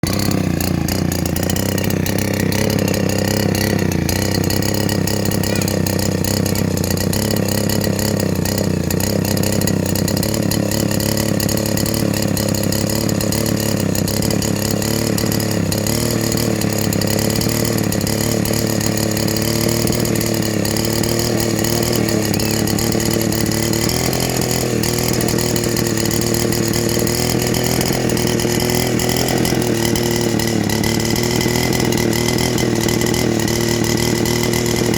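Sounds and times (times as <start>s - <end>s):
chainsaw engine running: 0.0s - 34.9s.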